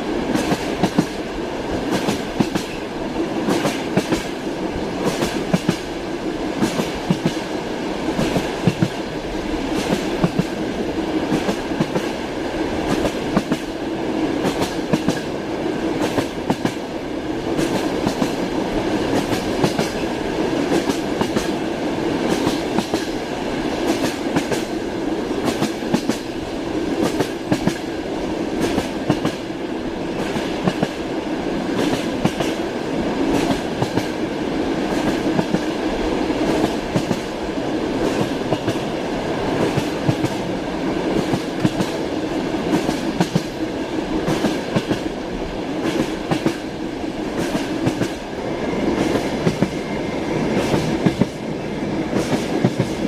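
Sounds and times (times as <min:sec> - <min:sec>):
train wheels clattering on rails: 0:00.0 - 0:53.0.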